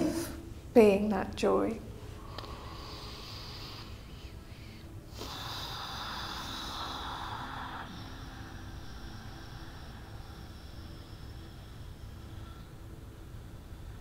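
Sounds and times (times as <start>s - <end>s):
low background hiss: 0.0s - 14.0s
slow breaths close to microphone: 1.9s - 14.0s.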